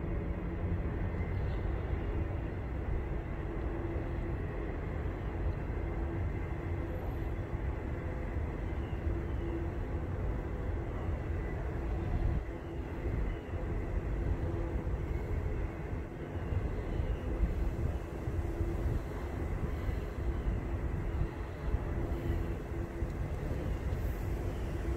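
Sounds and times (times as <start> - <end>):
low outdoor rumble: 0.0 - 24.9.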